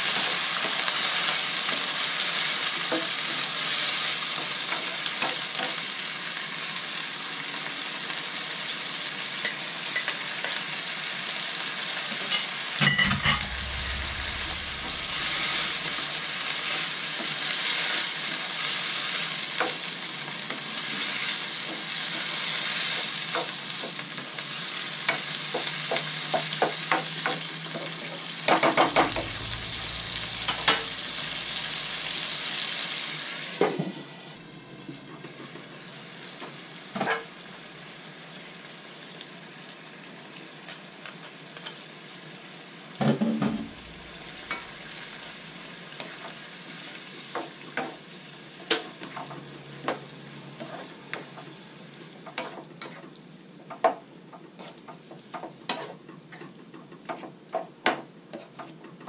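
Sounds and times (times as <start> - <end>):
vegetables sizzling in a wok: 0.0 - 59.0.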